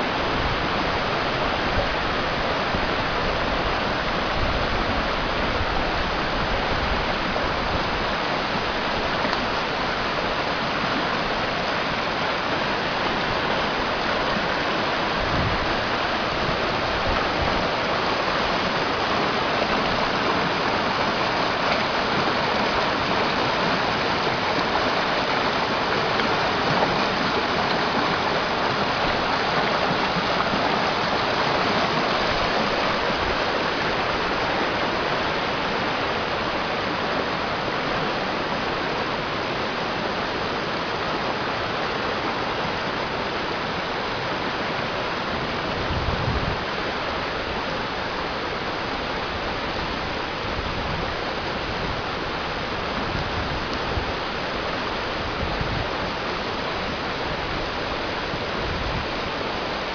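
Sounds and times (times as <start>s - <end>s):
brook water rushing down falls: 0.0s - 59.9s.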